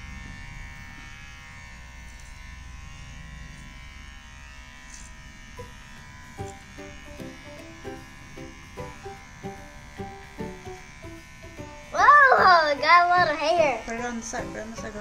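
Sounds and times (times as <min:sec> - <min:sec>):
pet clippers buzzing: 0:00.0 - 0:15.0.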